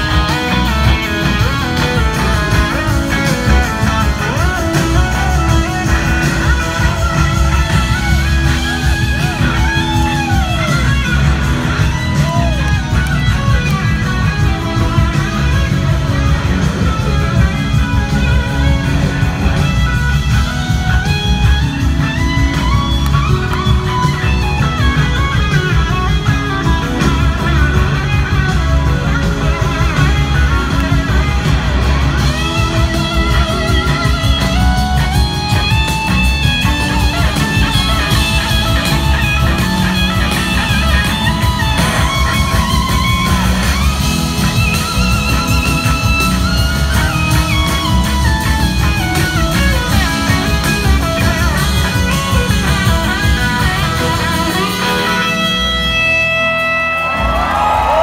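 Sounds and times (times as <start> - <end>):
electric slide guitar: 0.0 - 58.0
live blues-rock band: 0.0 - 58.0.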